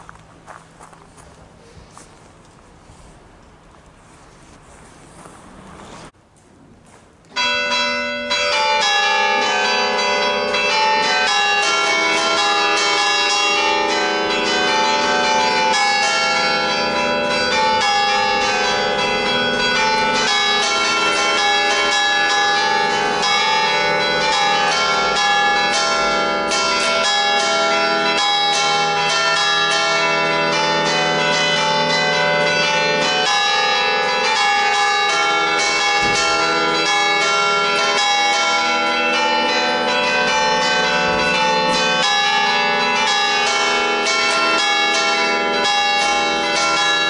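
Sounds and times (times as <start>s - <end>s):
church bells ringing a peal: 7.3s - 47.0s.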